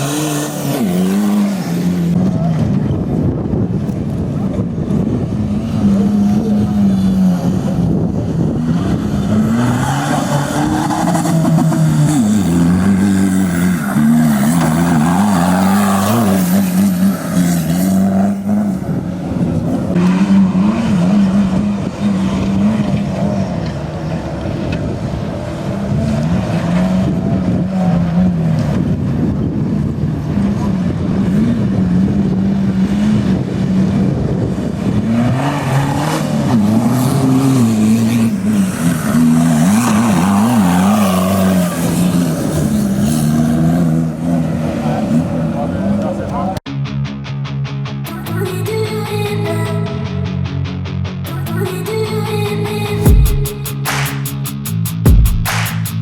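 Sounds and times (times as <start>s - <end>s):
diesel engine revving: 0.0s - 46.7s.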